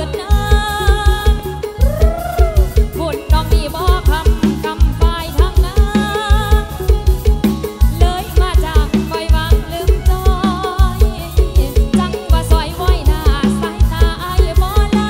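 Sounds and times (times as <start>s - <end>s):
heavy fast bass-drum beat: 0.0s - 15.0s
person singing wavering melody: 0.0s - 15.0s.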